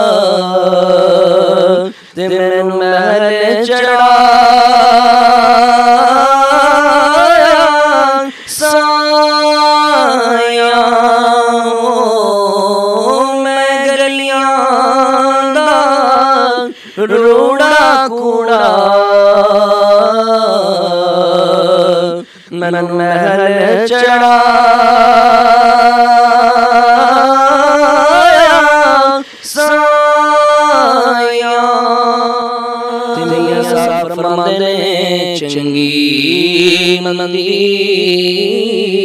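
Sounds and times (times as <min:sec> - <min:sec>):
man singing unaccompanied: 0:00.0 - 0:39.0.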